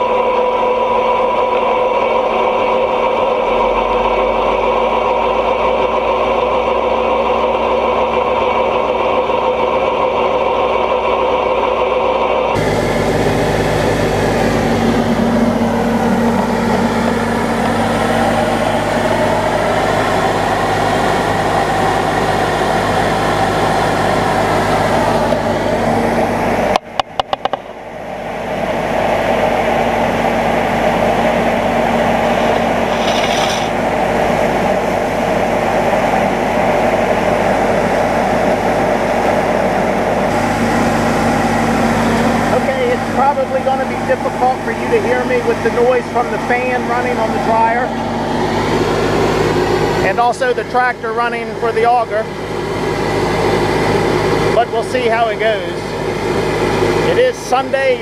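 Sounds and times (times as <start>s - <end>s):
fan drone: 0.0s - 58.0s
tractor engine running: 0.0s - 58.0s.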